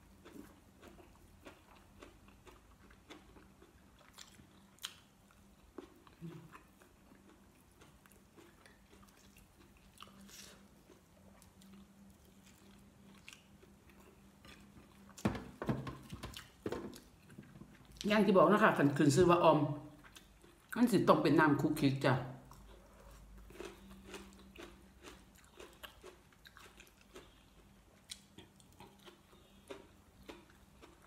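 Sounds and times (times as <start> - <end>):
person chewing food: 0.0 - 18.1, 19.9 - 20.8, 22.4 - 31.0.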